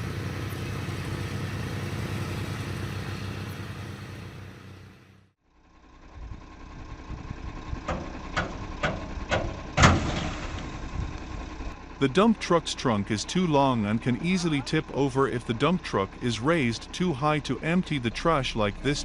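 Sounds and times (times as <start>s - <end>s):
heavy truck engine running: 0.0s - 19.0s
low dull engine rumble: 0.0s - 19.0s.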